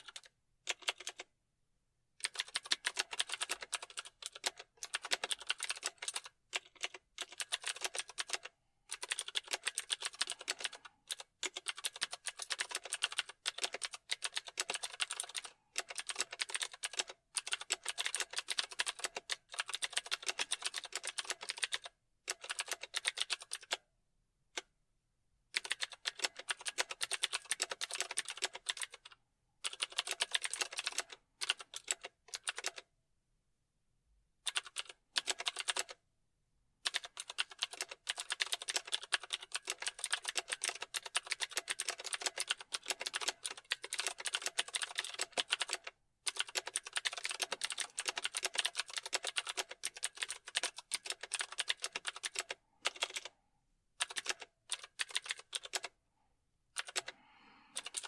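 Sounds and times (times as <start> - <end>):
fast typing on a keyboard: 0.0 - 1.3, 2.2 - 23.8, 25.6 - 32.9, 34.5 - 36.0, 36.8 - 53.3, 54.0 - 56.0, 56.8 - 58.0.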